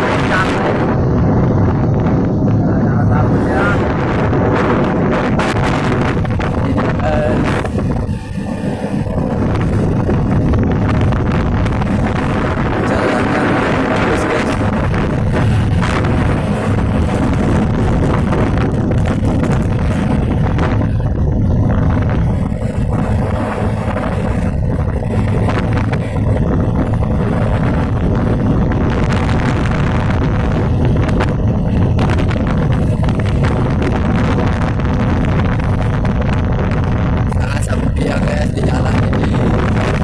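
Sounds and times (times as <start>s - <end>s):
vehicle engine running: 0.0s - 40.0s
wind noise on microphone: 0.0s - 40.0s.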